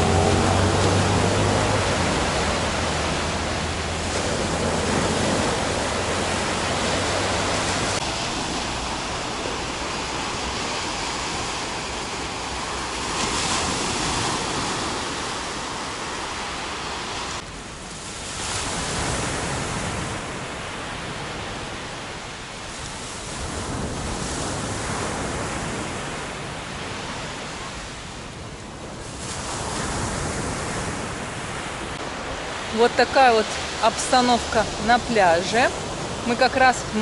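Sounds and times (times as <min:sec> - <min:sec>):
waves washing up a beach: 0:00.0 - 0:37.0.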